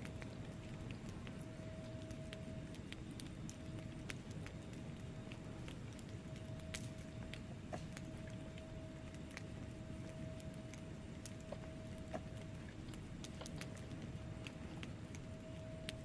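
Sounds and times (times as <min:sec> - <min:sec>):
faint steady tone: 0:00.0 - 0:16.0
fire flames rumbling: 0:00.0 - 0:16.0
logs crackling and popping: 0:00.0 - 0:16.0.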